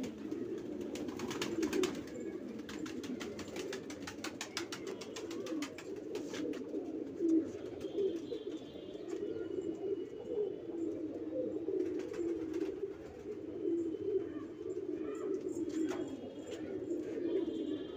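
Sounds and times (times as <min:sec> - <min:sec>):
pigeons cooing: 0:00.0 - 0:17.9.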